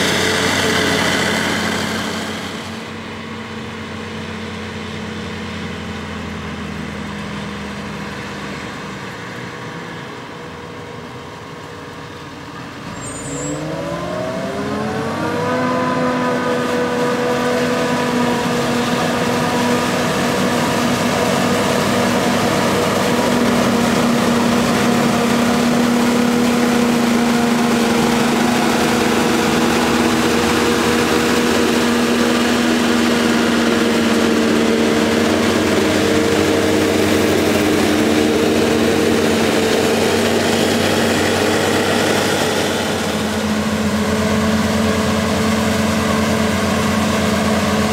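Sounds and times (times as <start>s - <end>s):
heavy diesel engine revving: 0.0s - 47.9s
loud mechanical whir: 0.0s - 47.9s.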